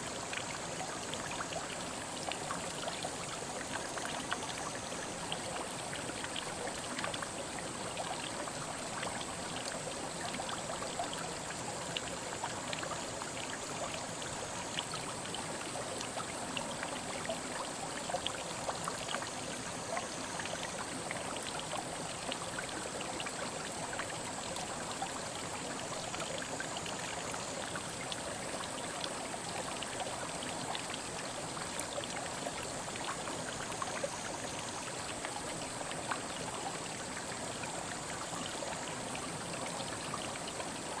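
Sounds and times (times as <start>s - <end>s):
water splashes and trickles: 0.0s - 41.0s.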